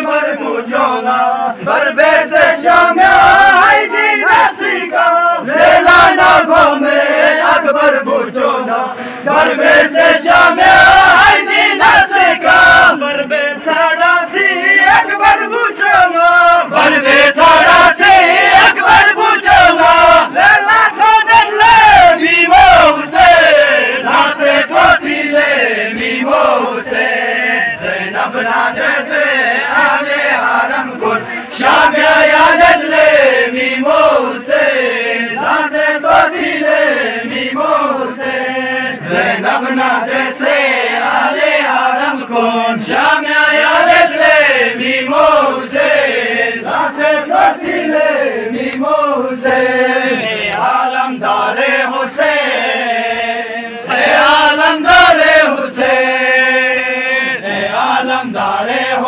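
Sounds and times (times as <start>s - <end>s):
men chanting a lament: 0.0s - 59.0s.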